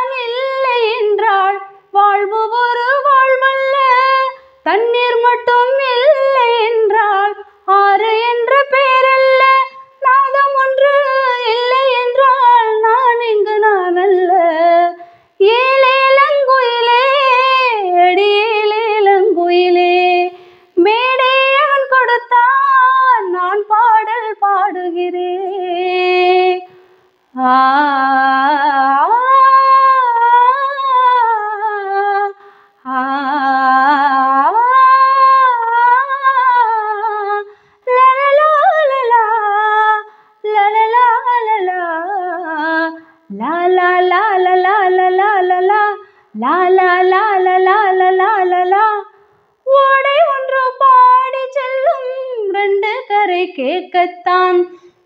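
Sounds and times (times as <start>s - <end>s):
woman singing unaccompanied: 0.0s - 54.9s.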